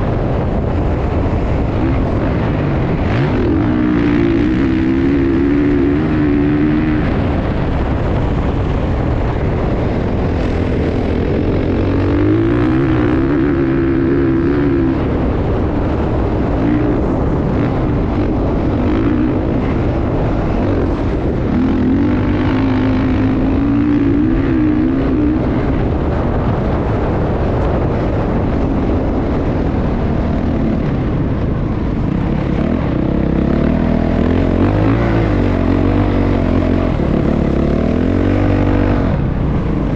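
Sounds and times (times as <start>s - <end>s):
constant rushing noise: 0.0s - 39.9s
motocross bike engine: 0.0s - 39.9s.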